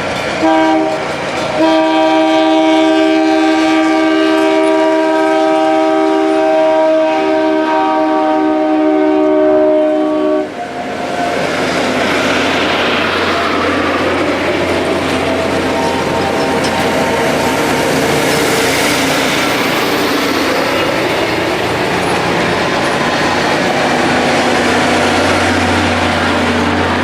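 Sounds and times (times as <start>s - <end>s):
passing train rushing: 0.0s - 27.0s
train horn: 0.4s - 12.2s, 12.9s - 22.0s, 23.4s - 27.0s.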